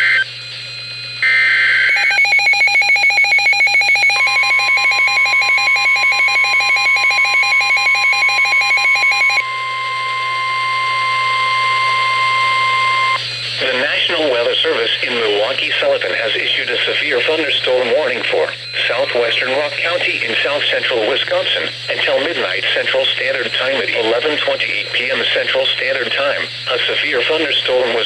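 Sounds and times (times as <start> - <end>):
rapid pulsing alarm beep: 0.0 - 28.0
steady high alarm tone: 0.0 - 28.0.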